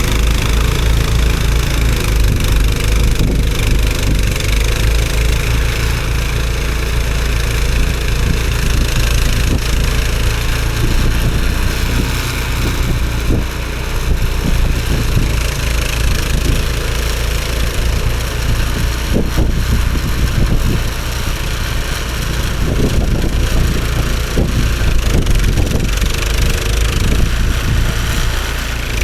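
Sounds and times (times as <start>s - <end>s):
snowblower engine running: 0.0s - 29.0s.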